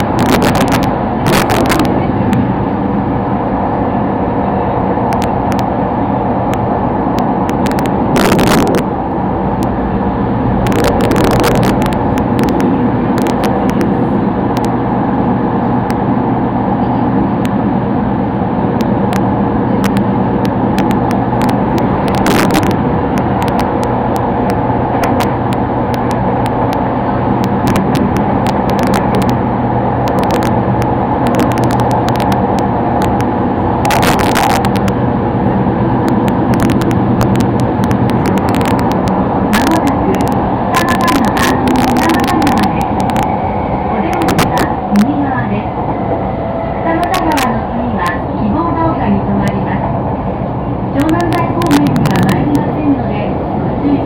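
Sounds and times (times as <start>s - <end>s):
train rumble with hum: 0.0s - 54.0s.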